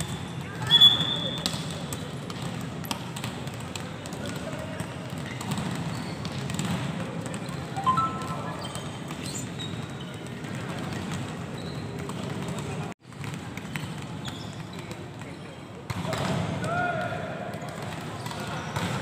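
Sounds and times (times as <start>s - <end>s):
balls bouncing on court: 0.0s - 19.0s.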